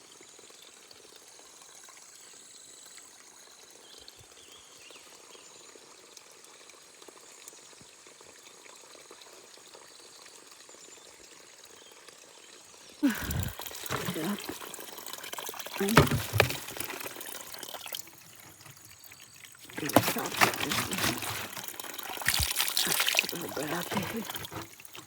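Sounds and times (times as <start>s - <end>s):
spring water trickling: 0.3s - 25.0s.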